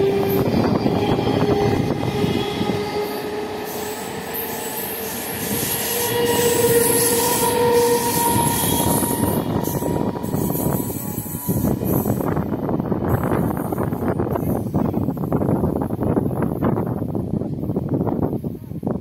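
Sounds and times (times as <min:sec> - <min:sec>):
train whining tone: 0:00.0 - 0:15.2
train wheels rumbling on rails: 0:00.0 - 0:19.0.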